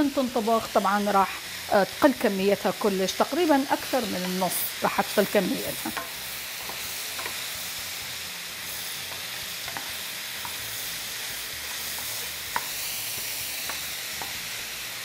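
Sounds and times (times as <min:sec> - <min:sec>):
mushrooms sizzling in a pan: 0:00.0 - 0:15.0.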